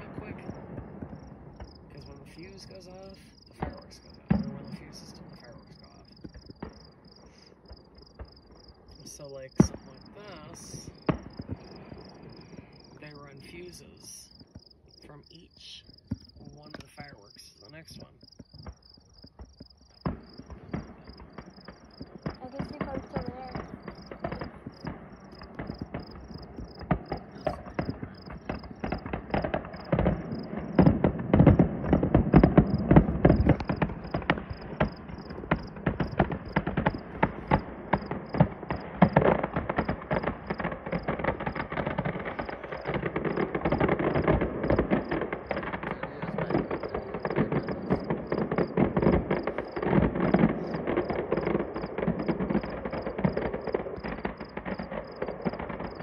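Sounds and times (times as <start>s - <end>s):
fireworks popping and crackling: 0.0s - 56.0s.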